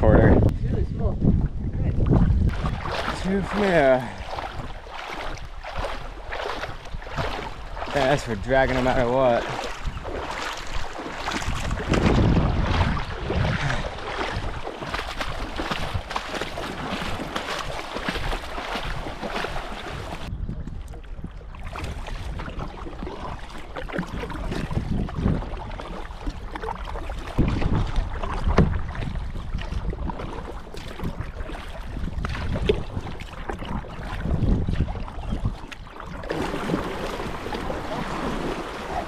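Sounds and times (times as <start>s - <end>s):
wind rumble on microphone: 0.0s - 39.0s
water sloshing around kayak: 1.2s - 39.0s.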